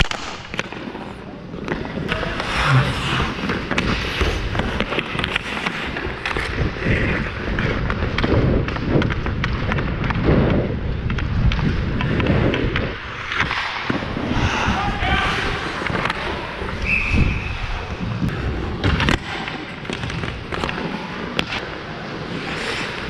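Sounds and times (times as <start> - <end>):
hockey stick hitting puck: 0.0 - 14.5, 15.3 - 16.9, 18.3 - 23.0
skates scraping on ice: 0.0 - 23.0.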